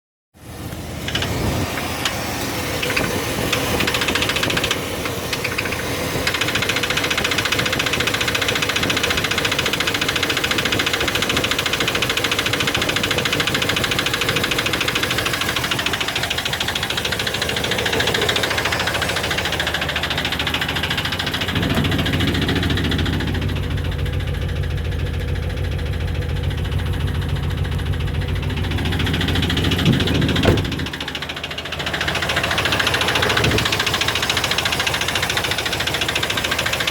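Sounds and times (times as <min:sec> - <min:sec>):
engine running with clicking knock: 0:00.4 - 0:36.9.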